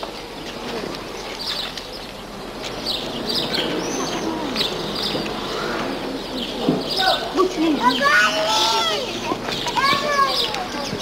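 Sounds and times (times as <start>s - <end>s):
birds chirping: 0.0s - 11.0s
faint distant voices: 0.0s - 11.0s
street noise: 0.0s - 11.0s.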